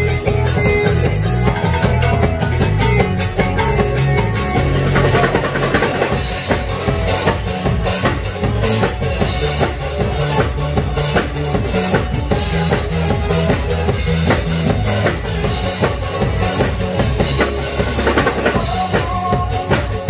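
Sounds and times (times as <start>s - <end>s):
bass line: 0.0s - 20.0s
live band music: 0.0s - 20.0s.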